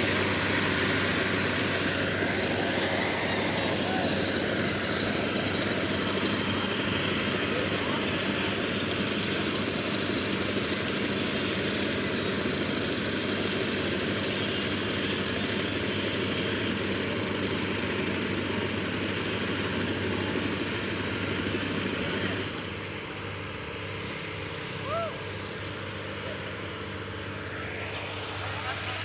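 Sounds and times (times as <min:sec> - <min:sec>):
heavy machinery engine running: 0:00.0 - 0:29.0.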